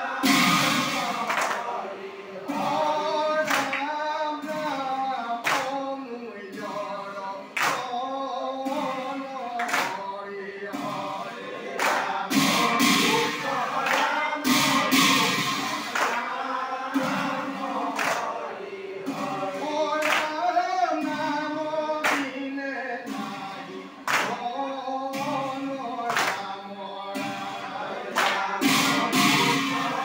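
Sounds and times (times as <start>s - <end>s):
sharp struck beats: 0.0s - 5.8s, 8.6s - 30.0s
men chanting together: 0.0s - 30.0s.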